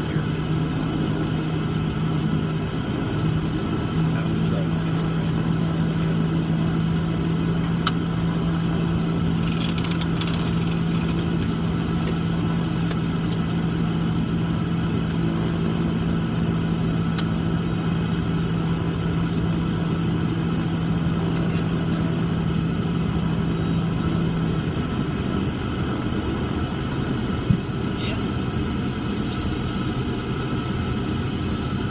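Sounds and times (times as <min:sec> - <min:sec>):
propeller engines droning: 0:00.0 - 0:31.9.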